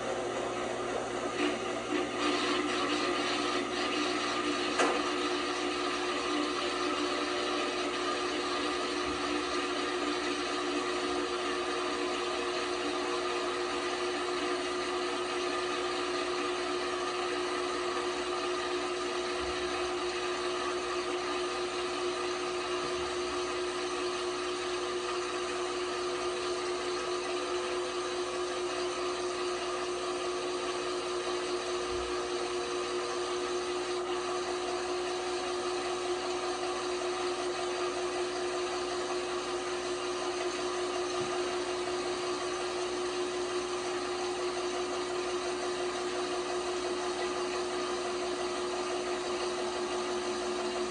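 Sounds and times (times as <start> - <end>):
washing machine motor whine: 0.0 - 50.9.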